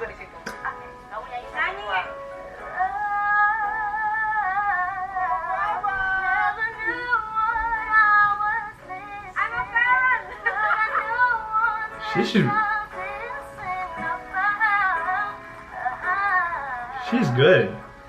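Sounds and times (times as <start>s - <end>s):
soft musical accompaniment: 0.0s - 18.0s
girl singing a pop ballad: 2.2s - 17.4s.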